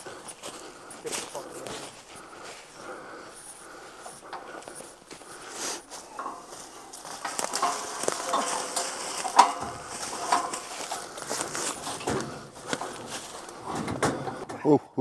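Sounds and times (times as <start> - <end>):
knocks and scraping of parts handled: 0.0 - 14.7.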